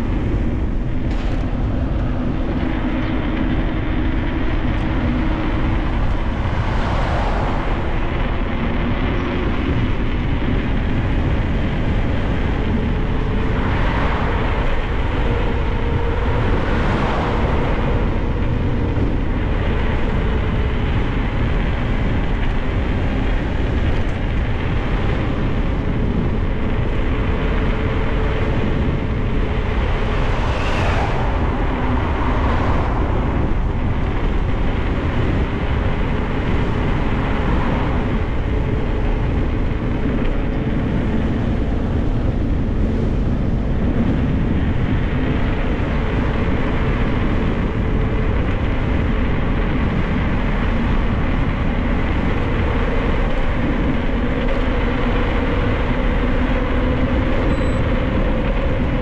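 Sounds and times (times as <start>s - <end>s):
wind rushing on microphone: 0.0s - 59.0s.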